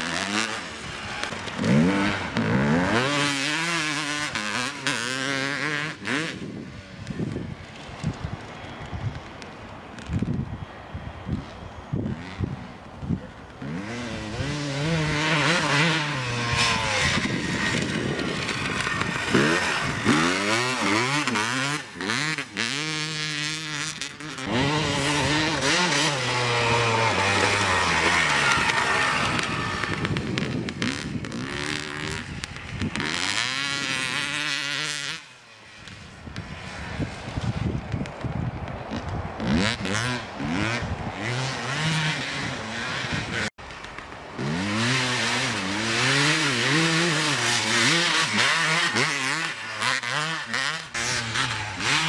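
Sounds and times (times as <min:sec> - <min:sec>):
dirt bike engine revving: 0:00.0 - 0:08.9, 0:11.3 - 0:37.9, 0:38.8 - 0:52.0.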